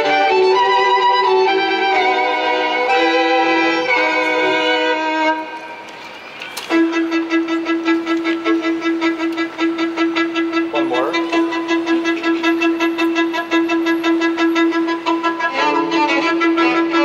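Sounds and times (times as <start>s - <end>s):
string ensemble playing: 0.0s - 17.0s.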